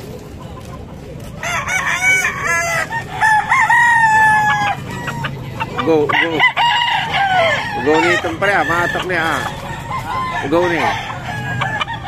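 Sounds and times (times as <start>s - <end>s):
roosters crowing: 1.3s - 12.0s.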